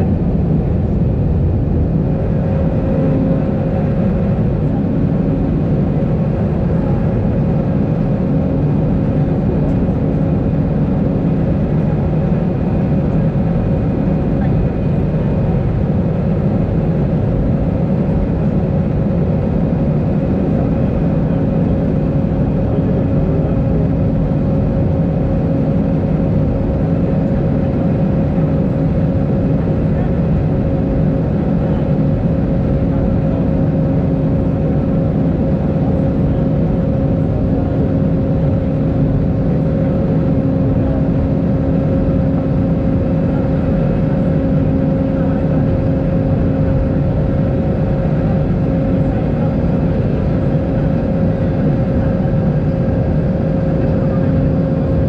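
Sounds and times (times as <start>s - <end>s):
airliner cabin engine and airflow rush: 0.0s - 55.0s
constant low hum: 0.0s - 55.0s.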